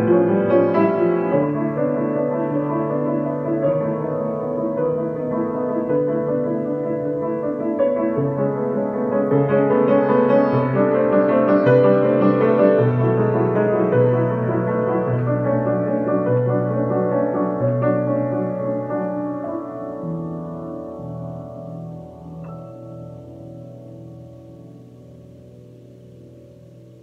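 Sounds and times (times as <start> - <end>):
jazz piano playing: 0.0 - 27.0.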